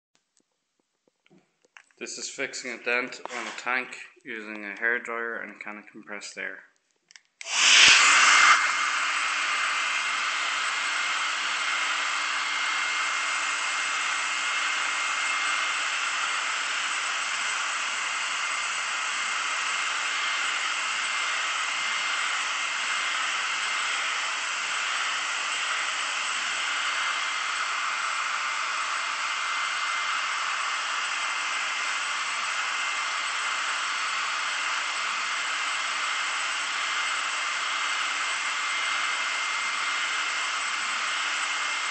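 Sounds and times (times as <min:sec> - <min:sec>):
hair dryer running: 0:07.4 - 0:41.9.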